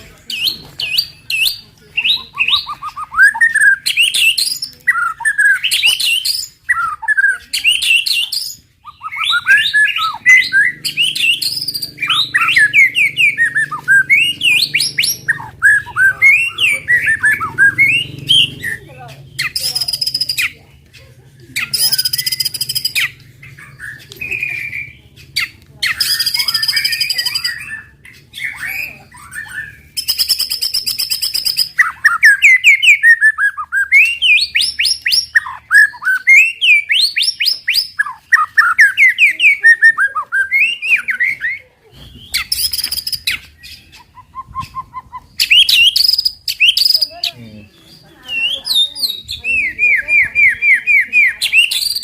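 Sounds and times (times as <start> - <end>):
rapid whistled bird song: 0.0 - 20.9, 21.6 - 52.0
harsh rattling bird calls: 0.0 - 52.0.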